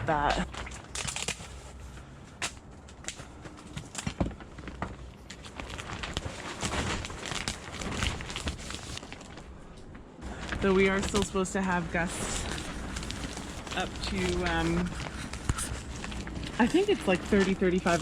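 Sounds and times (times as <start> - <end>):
plastic cover crinkling in wind: 0.3 - 18.0.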